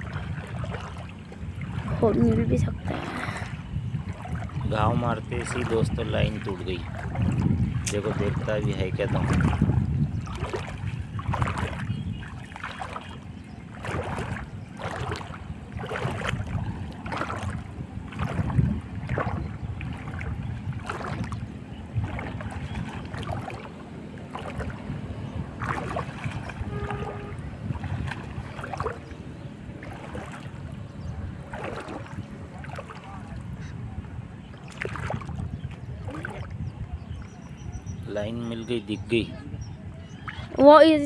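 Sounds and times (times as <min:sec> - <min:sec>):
legs wading through shallow water: 0:00.0 - 0:41.0.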